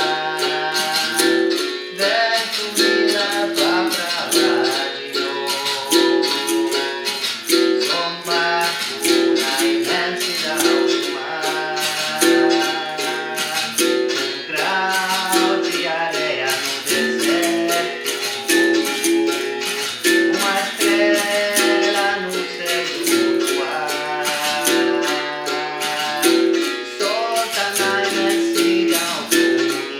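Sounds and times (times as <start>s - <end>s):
person singing: 0.0s - 29.9s.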